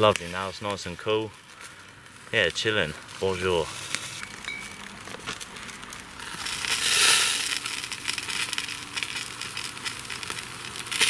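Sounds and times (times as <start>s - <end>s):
meat sizzling on barbecue: 0.0s - 11.0s.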